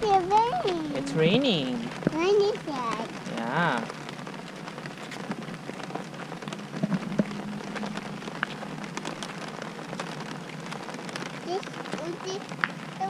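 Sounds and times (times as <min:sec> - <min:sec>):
rain on umbrella: 0:00.0 - 0:13.0.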